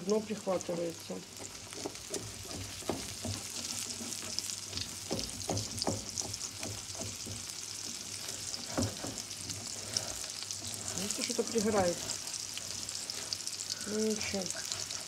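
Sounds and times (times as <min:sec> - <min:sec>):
egg sizzling in a frying pan: 0:00.0 - 0:15.0
spatula scraping a pan: 0:01.3 - 0:13.7, 0:14.3 - 0:15.0.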